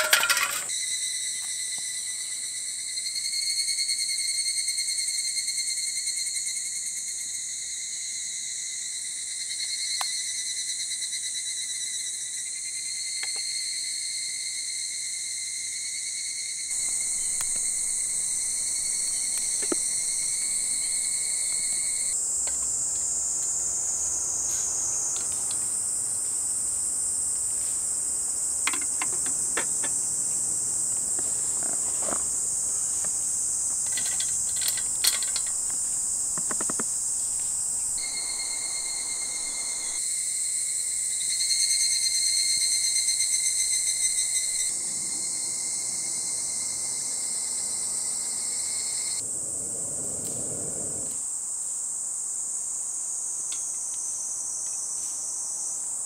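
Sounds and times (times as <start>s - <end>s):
insects trilling: 0.0s - 56.0s
low pulsing insect buzz: 0.7s - 56.0s.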